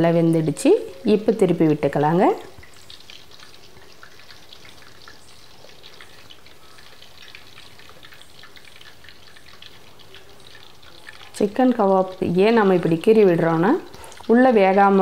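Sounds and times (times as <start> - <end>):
chicken deep-frying in hot oil: 0.0 - 15.0.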